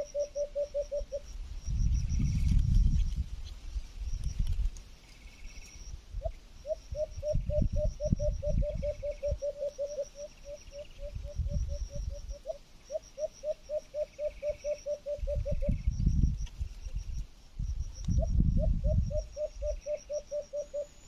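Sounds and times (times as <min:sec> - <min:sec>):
insects trilling faintly: 0:00.0 - 0:21.0.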